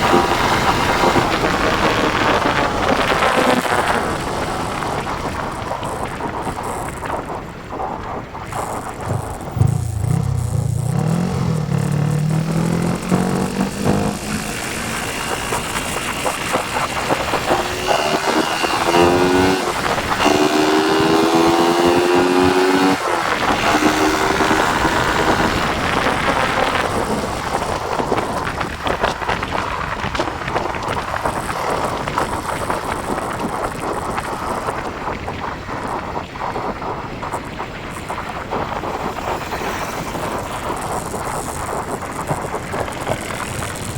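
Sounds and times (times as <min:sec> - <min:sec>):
motorcycle engine accelerating: 0:00.0 - 0:43.9
wind rushing over microphone: 0:00.0 - 0:43.9.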